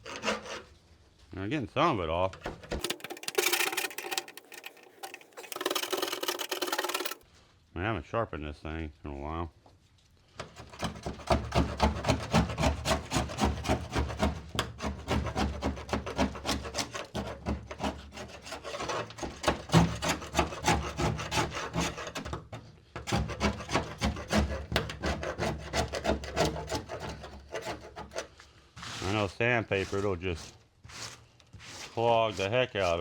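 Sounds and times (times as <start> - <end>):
hand scraper scraping metal: 0.0 - 0.8, 2.4 - 7.2, 10.4 - 33.0.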